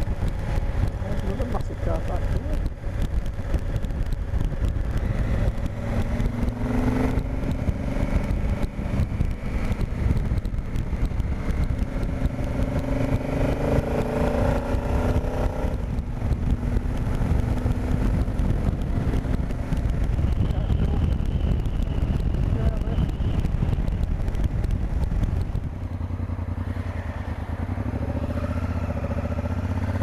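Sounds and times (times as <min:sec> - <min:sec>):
motorcycle engine running: 0:00.0 - 0:30.0
wind and road noise: 0:00.0 - 0:30.0.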